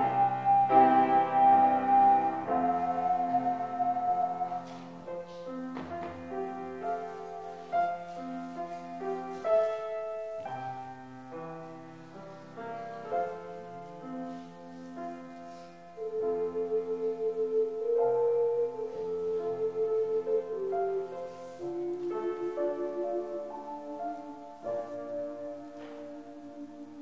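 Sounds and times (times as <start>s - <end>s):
ocarinas playing a hymn: 0.0s - 27.0s.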